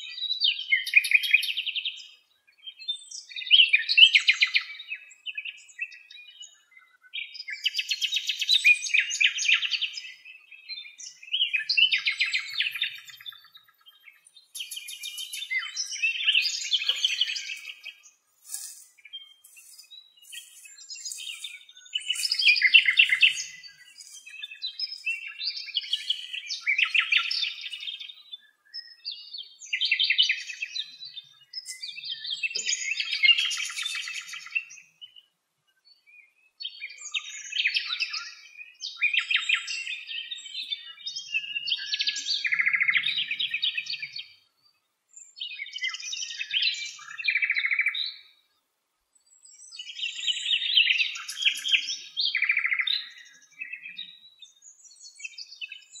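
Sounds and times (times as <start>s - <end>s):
nightingale singing: 0.0s - 48.6s, 49.2s - 56.0s.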